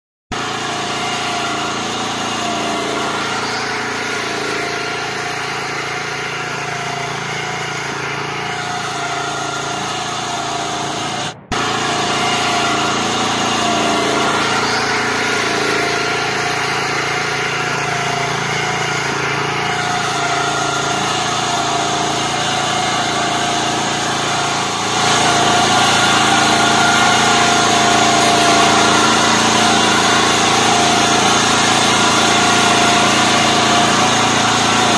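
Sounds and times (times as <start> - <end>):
mower engine running: 0.3 - 34.9.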